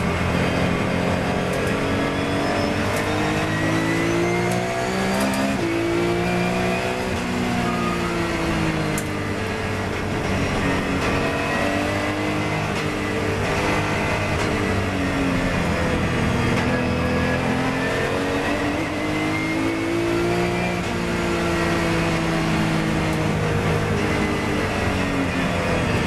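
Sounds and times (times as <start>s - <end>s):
race car engine at speed: 0.0s - 26.0s.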